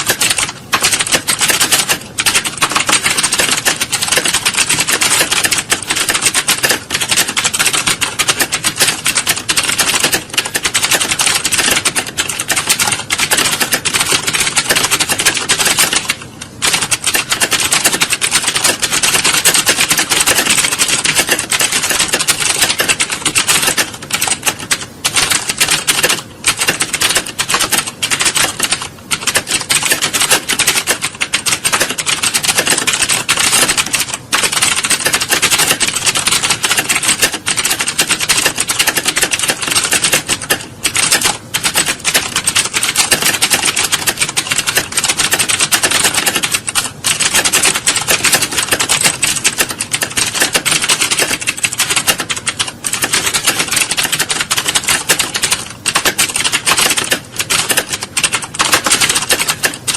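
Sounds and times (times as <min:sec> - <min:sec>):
keyboards typing: 0:00.0 - 0:59.9.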